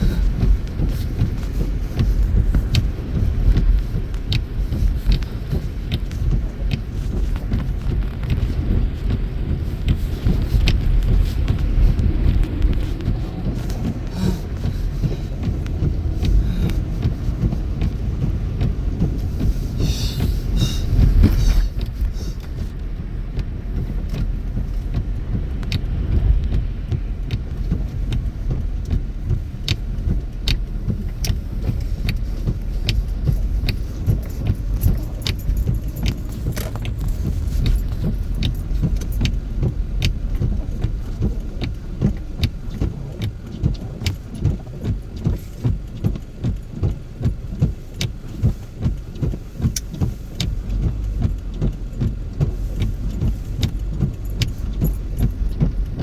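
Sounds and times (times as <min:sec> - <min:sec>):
light clicks and rattles: 0:00.0 - 0:56.0
road and engine rumble: 0:00.0 - 0:56.0.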